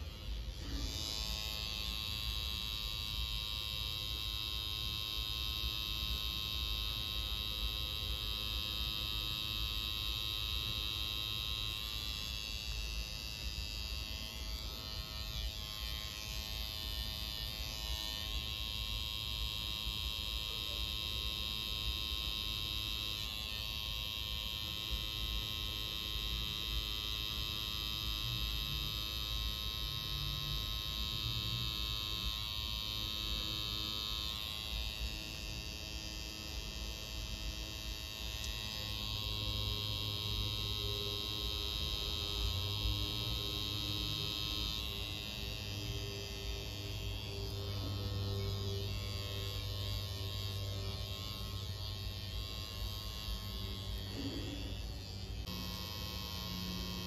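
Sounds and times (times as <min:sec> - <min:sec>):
tattoo machine buzzing: 0:00.0 - 0:57.0.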